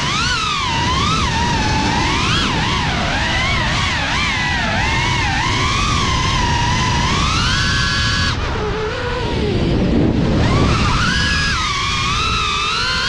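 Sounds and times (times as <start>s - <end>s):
drone motors whining: 0.0s - 13.0s
wind rushing: 0.0s - 13.0s.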